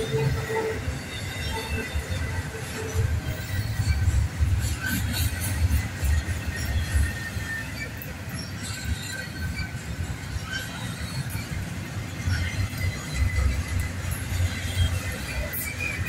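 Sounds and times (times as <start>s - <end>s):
freight train rumbling on rails: 0.0s - 16.0s
train wheel squeal: 0.0s - 16.0s.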